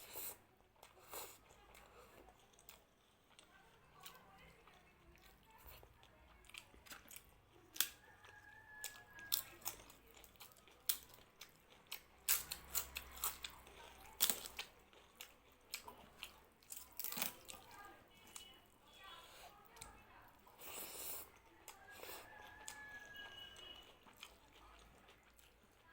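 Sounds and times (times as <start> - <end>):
person chewing crunchy food: 0.0 - 18.5, 20.4 - 25.8.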